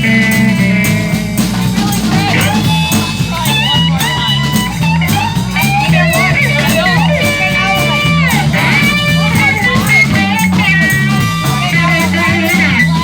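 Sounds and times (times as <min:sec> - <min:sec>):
bass and drums groove: 0:00.0 - 0:13.0
lead electric guitar bending notes: 0:00.0 - 0:13.0.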